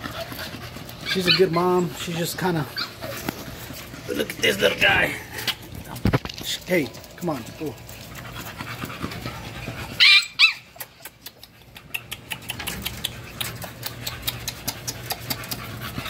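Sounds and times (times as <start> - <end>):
puppies yipping: 0.0 - 5.8, 7.8 - 16.0
paws scratching wire pen: 0.0 - 16.0.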